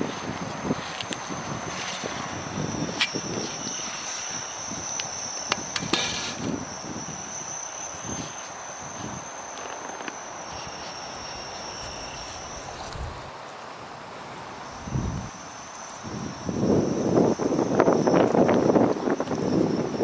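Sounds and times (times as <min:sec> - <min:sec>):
insect high-pitched trill: 0:00.0 - 0:20.0.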